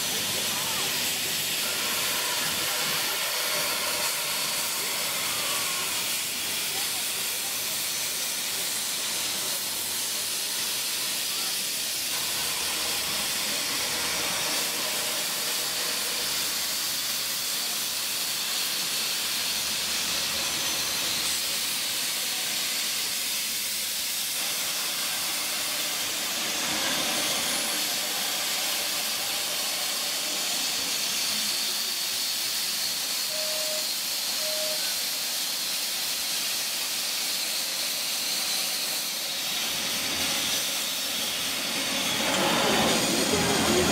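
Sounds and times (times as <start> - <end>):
steam locomotive hissing: 0.0 - 43.9.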